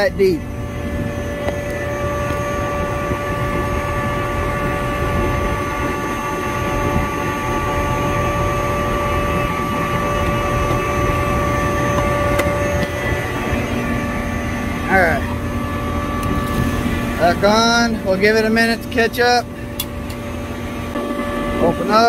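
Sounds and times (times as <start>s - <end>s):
vacuum pump drone and whine: 0.0s - 22.0s.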